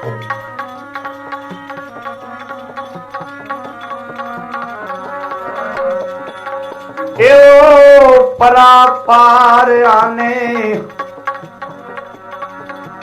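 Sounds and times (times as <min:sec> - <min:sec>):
held melodic accompaniment: 0:00.0 - 0:13.0
tabla playing steady rhythm: 0:00.0 - 0:13.0.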